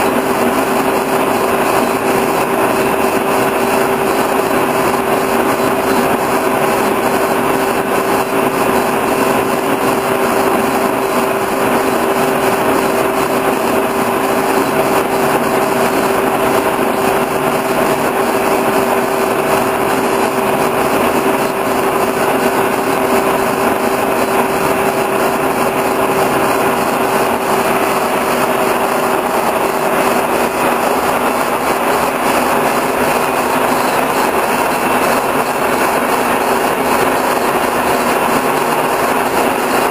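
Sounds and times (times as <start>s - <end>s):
machine tool humming: 0.0s - 39.9s.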